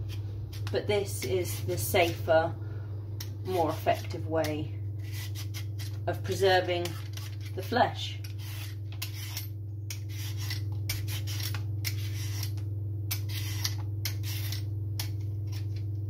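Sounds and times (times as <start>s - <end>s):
peeler scraping squash skin: 0.0s - 2.2s, 3.4s - 16.0s
steady low hum: 0.0s - 16.0s.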